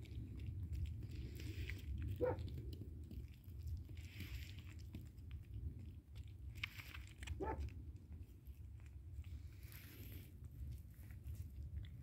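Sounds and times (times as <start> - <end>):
animal chewing wetly: 0.0 - 12.0
low steady rumble: 0.0 - 12.0.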